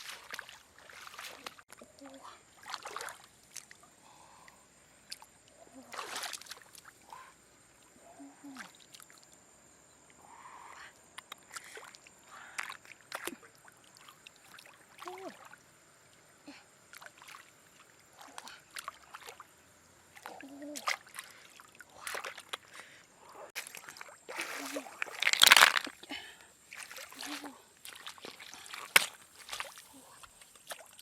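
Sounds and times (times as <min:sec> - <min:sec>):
water splashing and sloshing: 0:00.0 - 0:09.4, 0:11.0 - 0:31.0.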